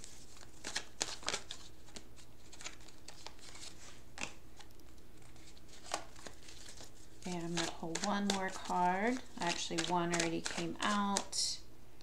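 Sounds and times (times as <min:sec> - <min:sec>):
cards being shuffled: 0:00.0 - 0:11.4.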